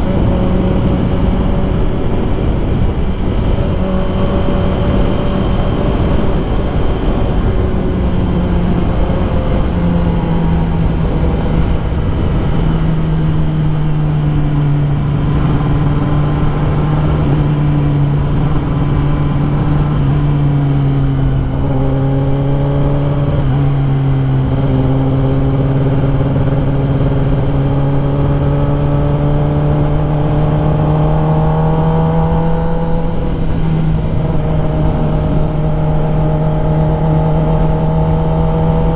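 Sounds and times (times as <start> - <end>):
motorcycle engine cruising: 0.0 - 38.9
wind rush on microphone: 0.0 - 38.9.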